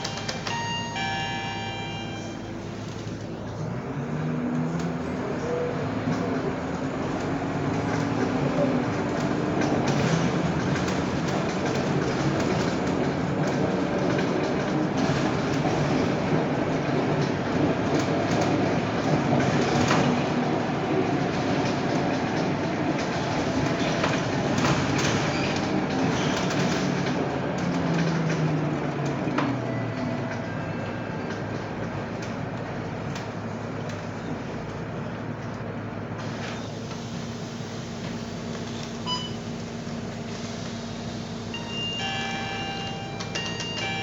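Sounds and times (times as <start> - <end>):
bus diesel engine: 0.0 - 44.0
road noise: 0.0 - 44.0
rattles from bus body: 4.5 - 41.5.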